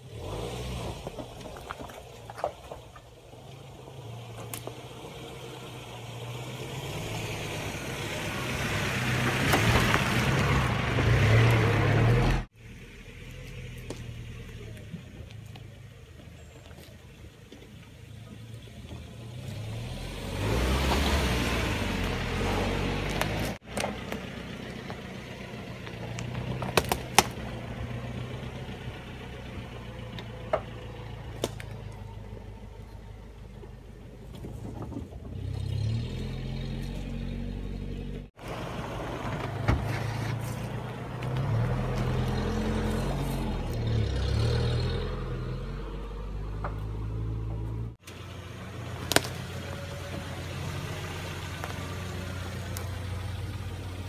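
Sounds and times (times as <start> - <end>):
off-road vehicle engine revving: 0.0 - 16.6, 18.0 - 54.0.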